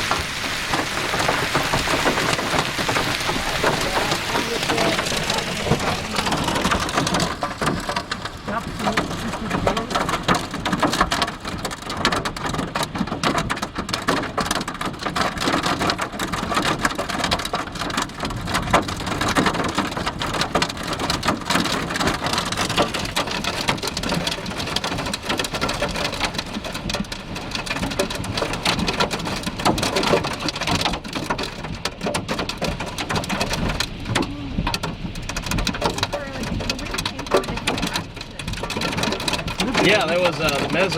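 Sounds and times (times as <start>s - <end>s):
rain and hail on a vehicle: 0.0s - 40.9s.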